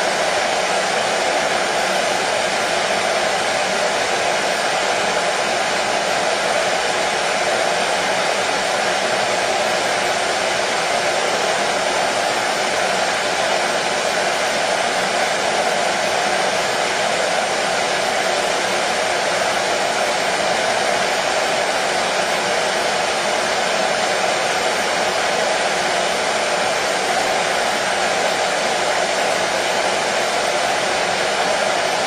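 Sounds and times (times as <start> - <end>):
hair dryer running: 0.0 - 32.0.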